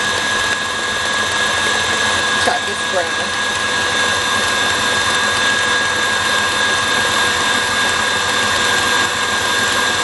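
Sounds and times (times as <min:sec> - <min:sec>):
stand mixer motor whine: 0:00.0 - 0:10.0
whisk beating mixture in bowl: 0:00.0 - 0:10.0.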